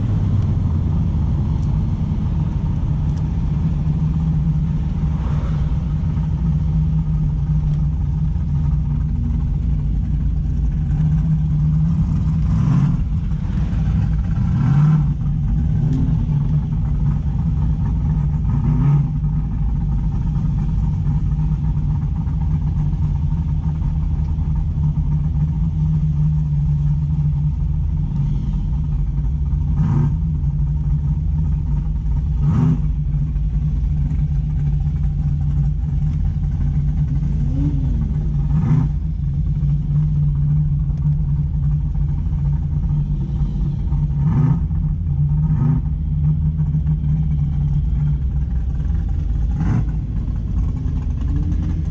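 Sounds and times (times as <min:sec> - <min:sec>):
car engine cruising: 0:00.0 - 0:51.9.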